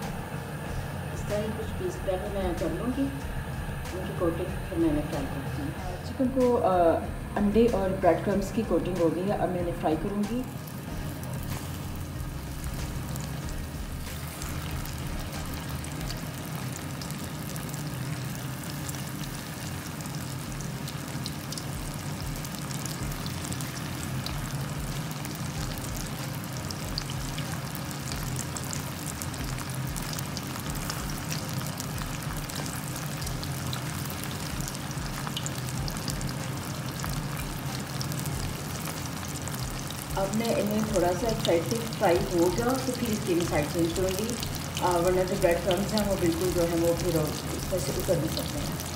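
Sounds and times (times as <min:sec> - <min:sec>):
chicken deep-frying in hot oil: 0:00.0 - 0:48.9
low steady hum: 0:00.0 - 0:48.9.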